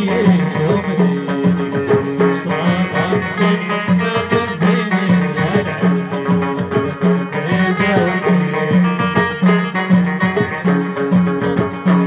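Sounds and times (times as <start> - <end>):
folk band with plucked banjos: 0.0 - 12.0
hand drums beat: 0.0 - 12.0.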